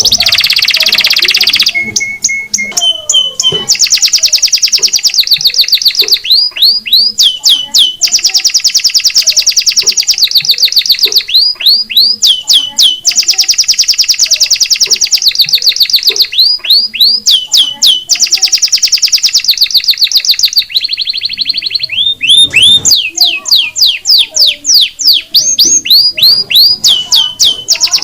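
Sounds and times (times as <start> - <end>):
cage birds singing: 0.0 - 28.0.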